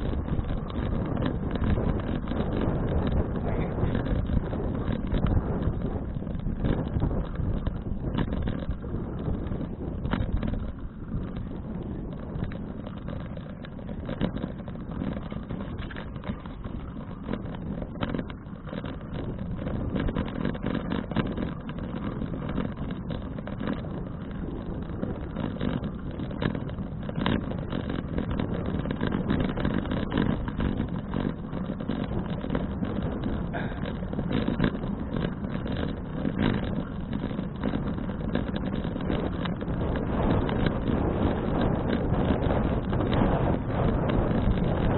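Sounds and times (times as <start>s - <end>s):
bicycle road noise: 0.0s - 44.9s
small clicks and rattles: 0.0s - 44.9s
wind buffeting microphone: 0.0s - 44.9s.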